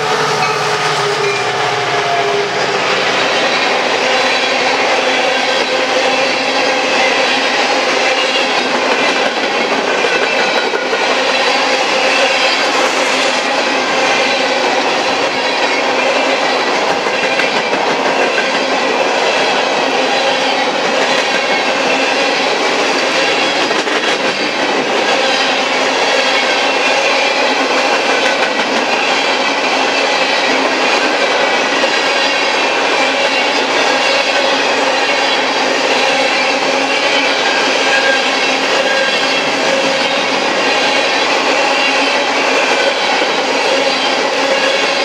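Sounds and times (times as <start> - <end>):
train wheels rolling on rails: 0.0 - 45.0.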